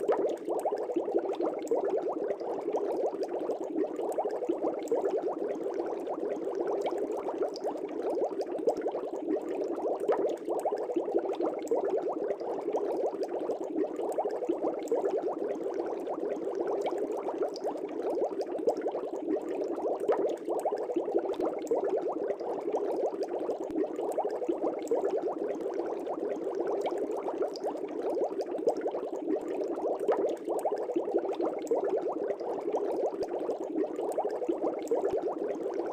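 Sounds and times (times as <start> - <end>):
air bubbles burbling in water: 0.0 - 35.9.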